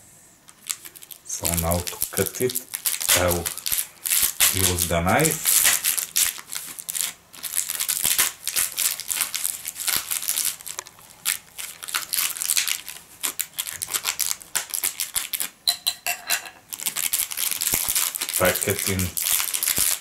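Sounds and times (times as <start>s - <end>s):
knife cutting crinkling cellophane: 0.6s - 15.5s, 16.7s - 20.0s.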